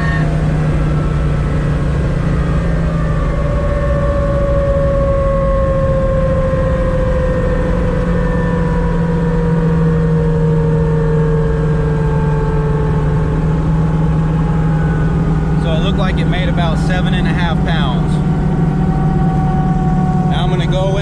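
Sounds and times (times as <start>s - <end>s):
turbocharged car engine droning: 0.0s - 21.0s.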